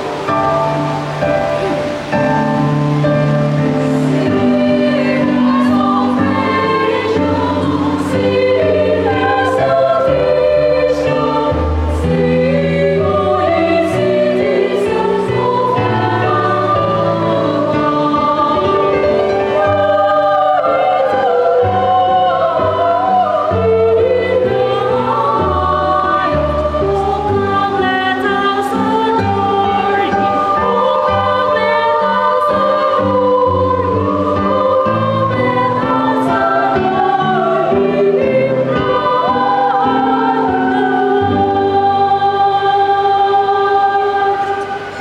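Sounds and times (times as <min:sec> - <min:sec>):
children's choir singing a carol: 0:00.0 - 0:45.0.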